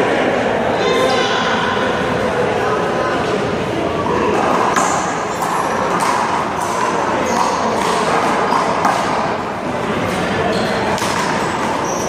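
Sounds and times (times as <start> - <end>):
background hubbub: 0.0 - 12.0.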